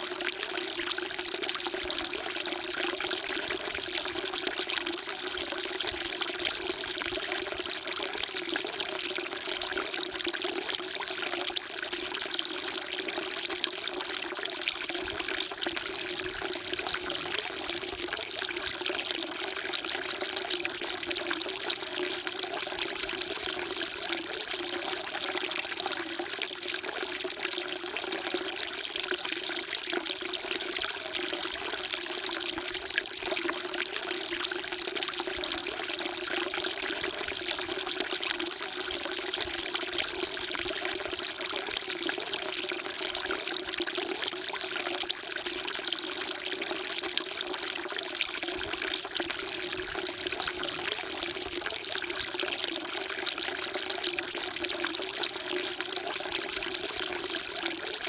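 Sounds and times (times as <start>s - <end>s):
water pouring into stone trough: 0.0s - 58.0s.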